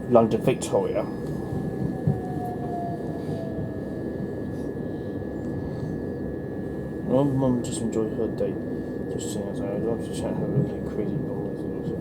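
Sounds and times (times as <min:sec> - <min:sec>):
train interior running rumble: 0:00.0 - 0:12.0.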